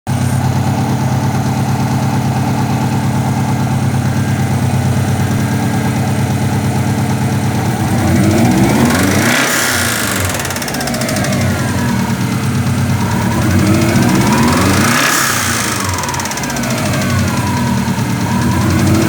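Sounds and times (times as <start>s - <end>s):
car engine idling with knock: 0.1s - 19.0s.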